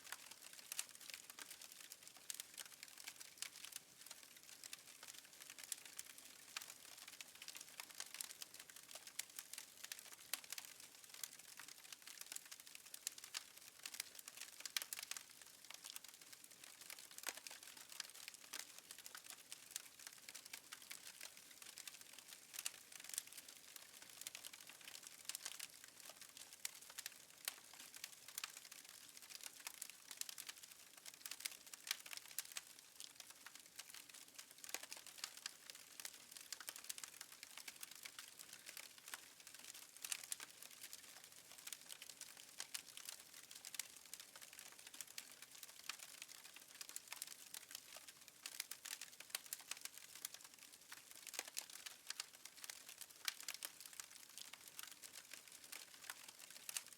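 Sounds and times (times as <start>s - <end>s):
fireplace fire crackling: 0.1s - 56.9s.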